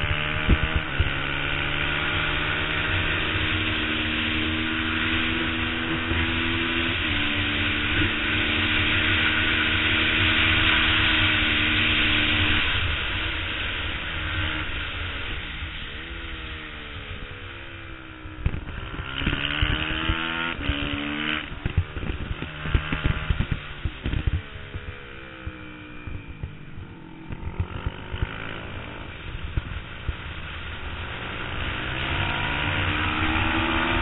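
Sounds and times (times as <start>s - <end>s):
race motorcycle engine: 0.0s - 34.0s.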